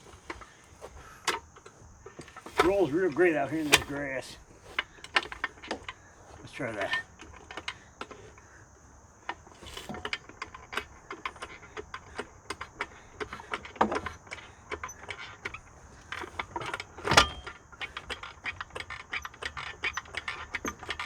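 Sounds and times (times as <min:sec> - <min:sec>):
floor jack metallic clicks: 0:00.0 - 0:21.0.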